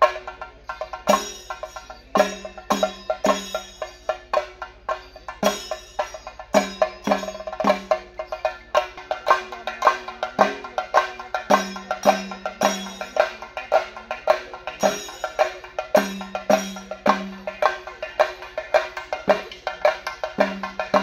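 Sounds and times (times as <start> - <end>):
drums beaten with sticks: 0.0 - 21.0.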